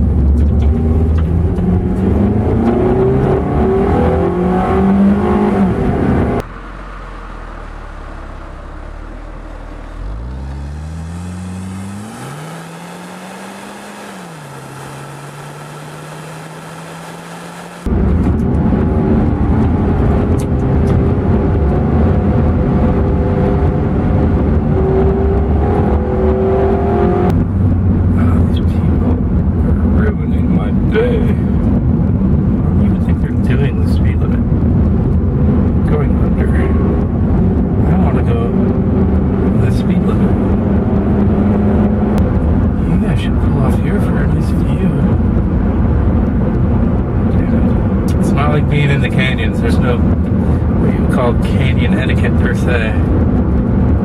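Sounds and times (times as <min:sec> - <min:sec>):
car engine: 0:00.0 - 0:54.0
road noise: 0:00.0 - 0:54.0.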